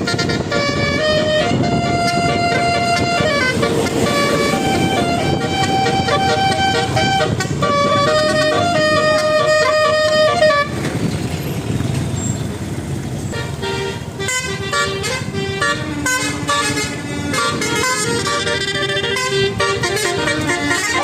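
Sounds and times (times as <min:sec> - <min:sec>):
multi-tone bus horn: 0:00.0 - 0:10.9, 0:13.2 - 0:21.0
engine and traffic noise: 0:00.0 - 0:21.0.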